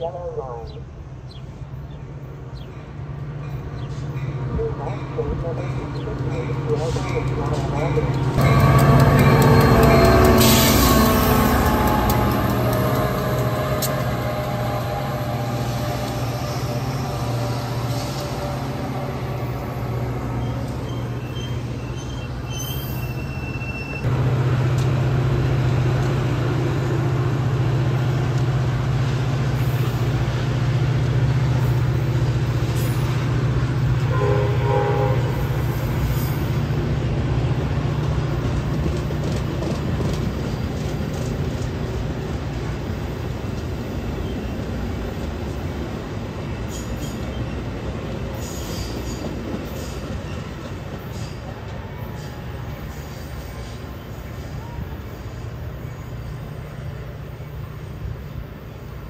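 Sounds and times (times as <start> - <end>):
coaches rumbling on rails: 0.0 - 59.0
diesel locomotive drone: 0.0 - 59.0.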